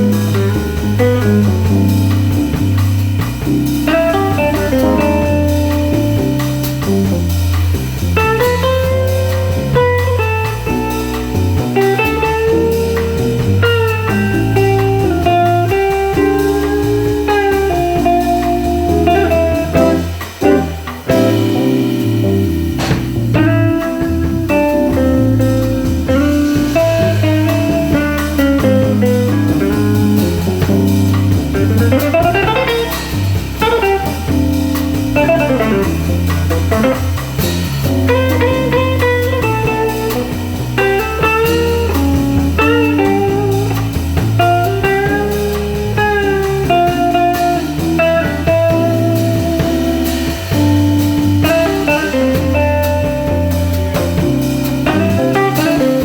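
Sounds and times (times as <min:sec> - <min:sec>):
drums: 0:00.0 - 0:56.0
electric guitar melody: 0:00.0 - 0:56.0
keyboard chords: 0:00.0 - 0:56.0.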